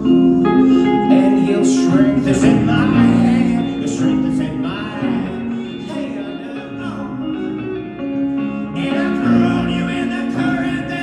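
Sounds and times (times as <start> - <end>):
fingerpicked acoustic guitar: 0.0 - 11.0
person singing: 0.0 - 11.0.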